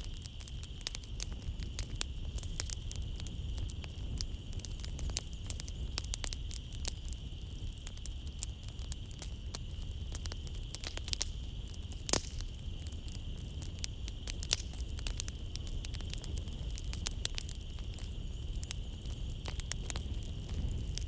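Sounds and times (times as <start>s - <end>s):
flames rumbling: 0.0s - 21.0s
wood fire popping and snapping: 0.0s - 21.0s.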